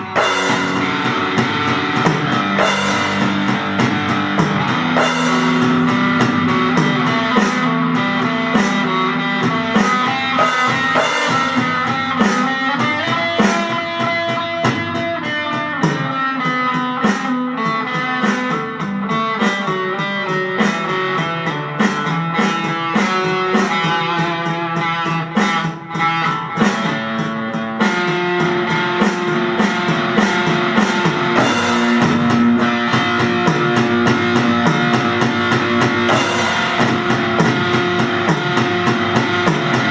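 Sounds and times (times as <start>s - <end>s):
drum kit beat: 0.0s - 39.9s
electric guitar playing: 0.0s - 39.9s.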